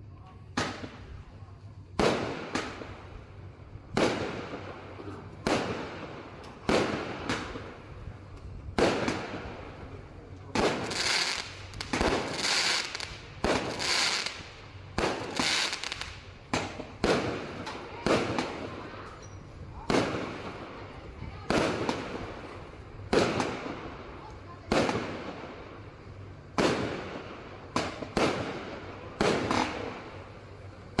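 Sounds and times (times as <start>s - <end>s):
firework cake shots: 0.0s - 31.0s.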